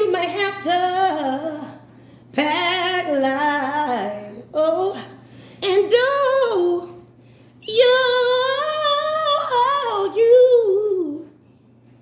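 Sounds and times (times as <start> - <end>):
woman singing unaccompanied: 0.0 - 11.4.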